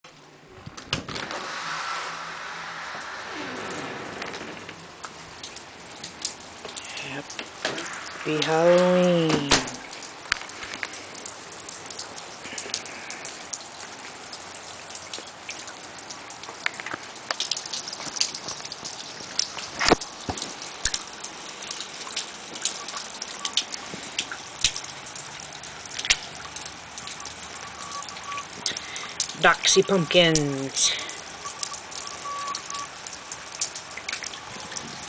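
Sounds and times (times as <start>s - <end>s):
rain falling: 0.0s - 35.0s
raindrop taps: 2.9s - 35.0s.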